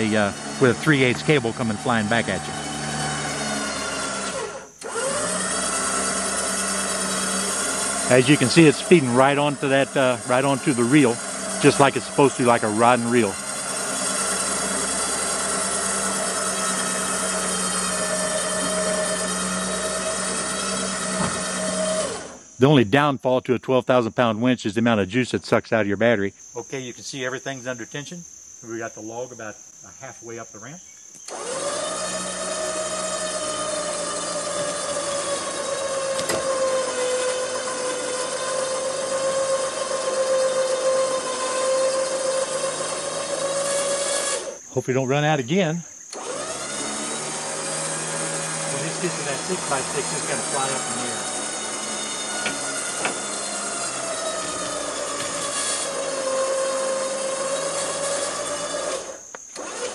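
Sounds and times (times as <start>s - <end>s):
electric winch motor under load: 0.0s - 22.5s, 31.2s - 45.3s, 46.0s - 59.9s.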